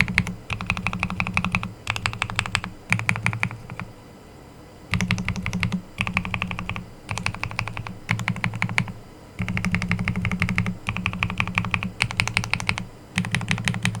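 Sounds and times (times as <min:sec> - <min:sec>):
fast typing on mechanical keyboard: 0:00.0 - 0:03.9, 0:04.9 - 0:14.0.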